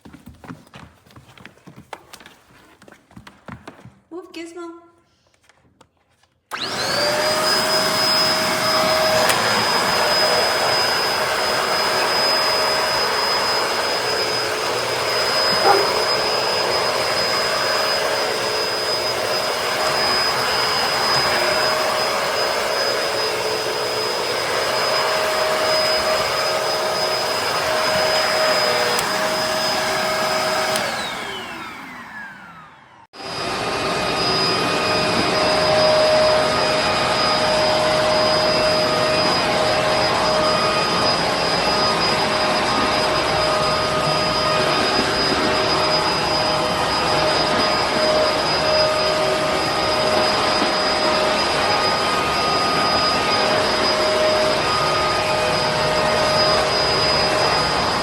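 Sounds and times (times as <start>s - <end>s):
vacuum cleaner running: 6.5s - 58.0s.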